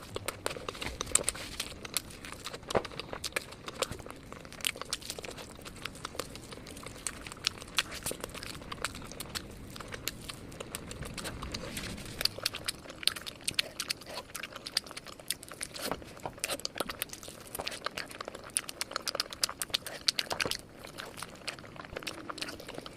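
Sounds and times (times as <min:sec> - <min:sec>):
crunching and chewing crispy chicken: 0:00.0 - 0:22.9.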